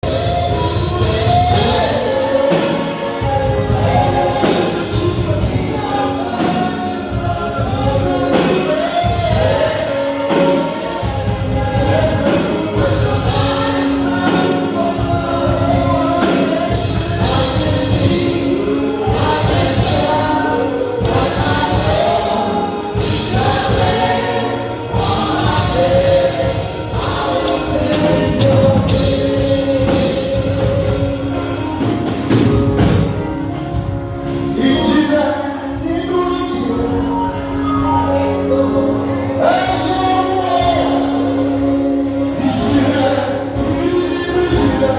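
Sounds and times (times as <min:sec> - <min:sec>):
drums steady beat: 0:00.0 - 0:44.9
gospel choir singing with band: 0:00.0 - 0:44.9.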